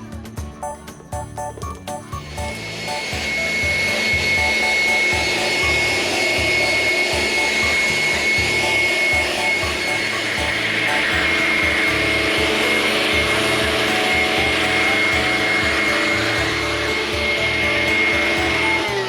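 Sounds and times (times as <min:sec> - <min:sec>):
background music with beat: 0:00.0 - 0:19.0
machine rushing with high whine: 0:02.2 - 0:19.0.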